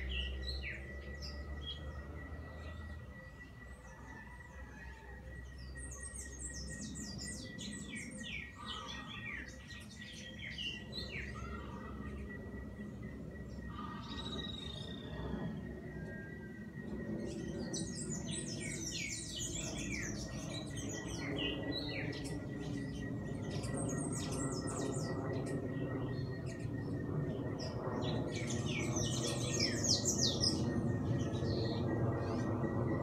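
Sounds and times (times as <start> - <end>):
low background hum: 0.0 - 33.0
songbirds chirping and twittering: 0.0 - 33.0
thin steady high tone: 0.0 - 33.0.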